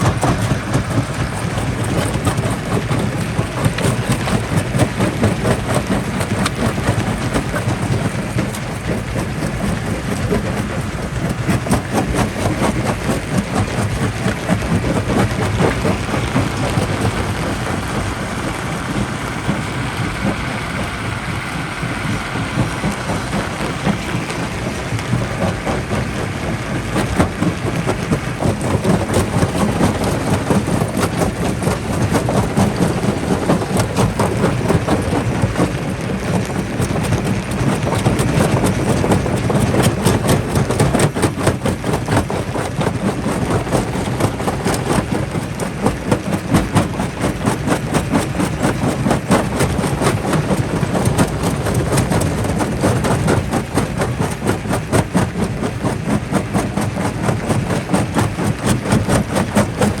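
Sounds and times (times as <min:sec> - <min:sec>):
rock crusher rumbling: 0:00.0 - 1:00.0.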